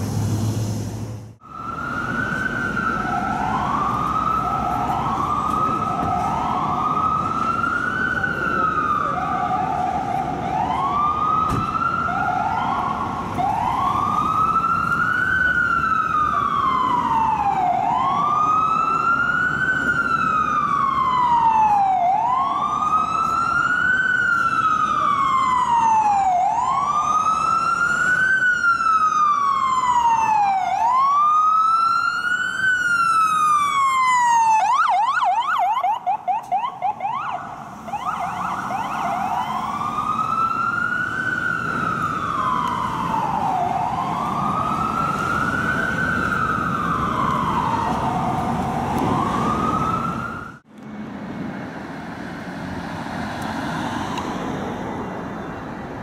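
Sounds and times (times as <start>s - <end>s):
low traffic rumble: 0.0s - 56.0s
ambulance siren: 1.4s - 50.7s, 51.8s - 56.0s.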